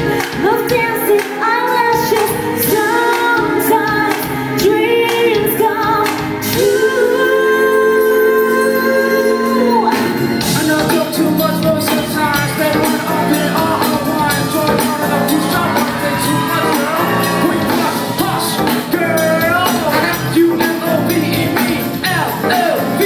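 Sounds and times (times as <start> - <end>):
pop song with singer and band: 0.0 - 23.0.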